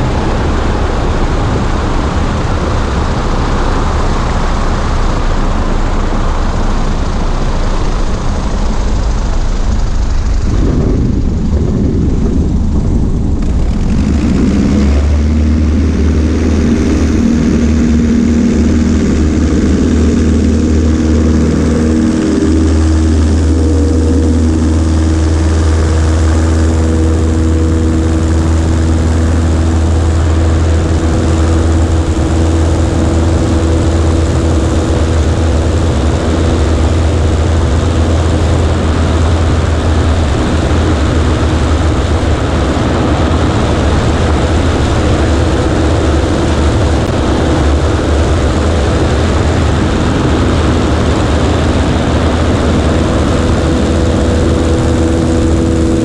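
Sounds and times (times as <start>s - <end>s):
plane engine and propeller: 0.0s - 56.0s
wind rushing over microphone: 0.0s - 56.0s.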